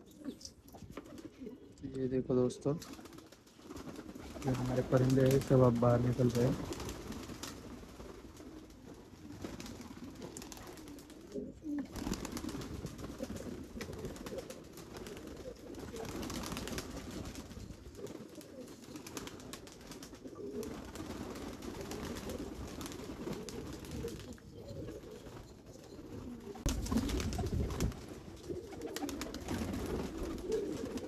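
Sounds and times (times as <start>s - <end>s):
pigeons cooing: 0.0s - 31.0s
wings flapping: 0.2s - 1.5s, 2.8s - 31.0s.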